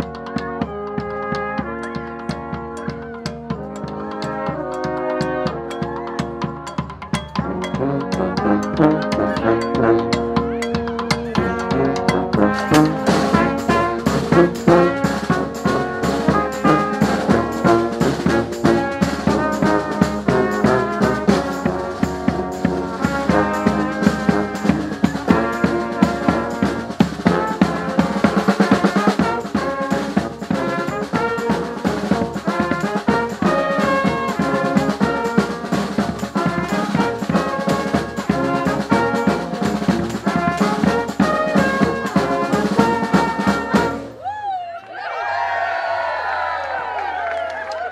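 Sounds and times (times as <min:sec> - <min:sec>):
brass band playing: 0:00.0 - 0:44.2
marching drums and bass drum: 0:00.0 - 0:44.2.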